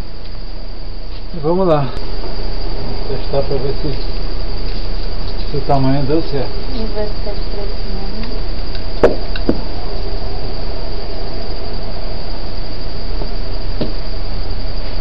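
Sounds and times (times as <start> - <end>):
crickets trilling: 0.0 - 15.0
low rumble: 1.9 - 14.8.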